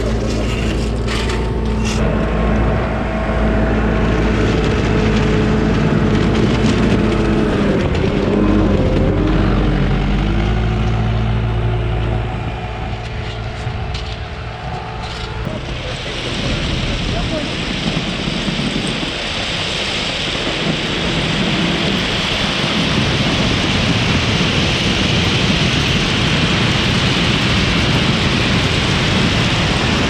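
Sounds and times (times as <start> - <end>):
heavy machinery engine running: 0.0 - 30.0.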